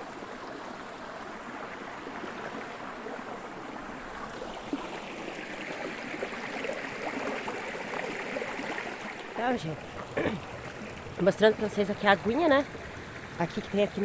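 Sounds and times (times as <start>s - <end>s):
water babbling over stones: 0.0s - 14.0s.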